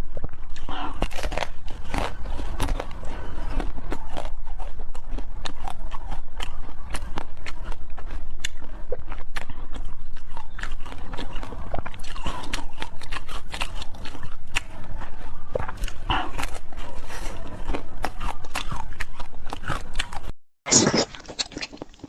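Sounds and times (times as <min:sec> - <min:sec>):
close-miked chewing and crunching: 0:00.0 - 0:22.0
wet mouth clicks: 0:03.5 - 0:22.0.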